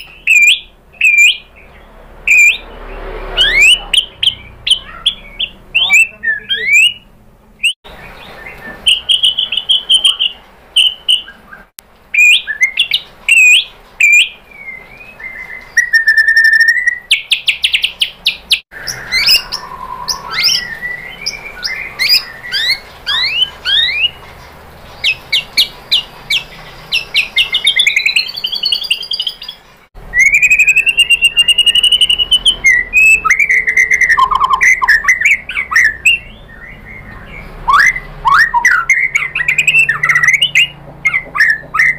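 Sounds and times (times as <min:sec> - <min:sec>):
bird singing whistles and trills: 0:00.0 - 0:02.8, 0:03.4 - 0:24.4, 0:25.0 - 0:41.9.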